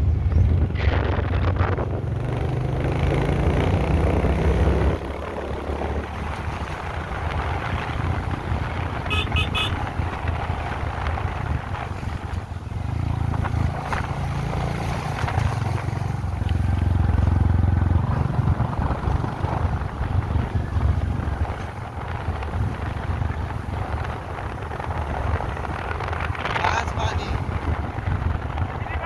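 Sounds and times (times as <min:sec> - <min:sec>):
road and air noise: 0:00.0 - 0:29.0.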